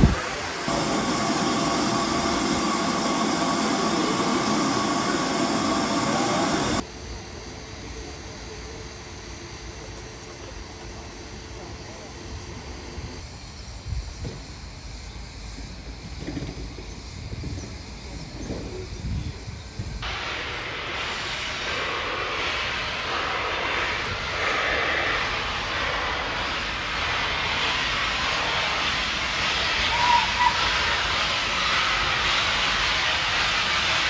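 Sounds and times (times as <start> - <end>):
train passing close by: 0.0 - 34.0.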